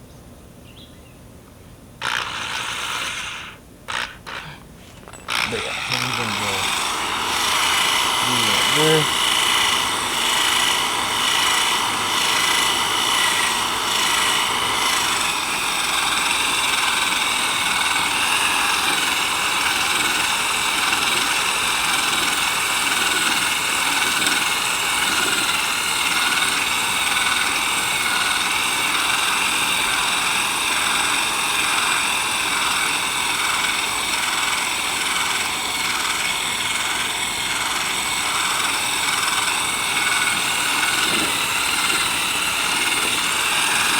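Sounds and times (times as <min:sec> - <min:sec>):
power drill sanding plastic: 0:02.0 - 0:43.9.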